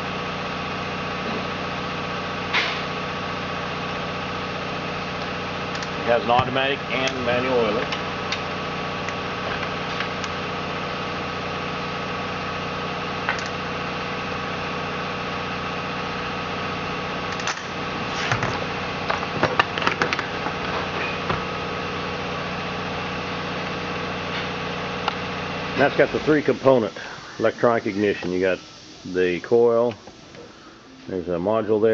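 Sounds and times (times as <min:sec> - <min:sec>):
steady mechanical hum: 0:00.0 - 0:31.9.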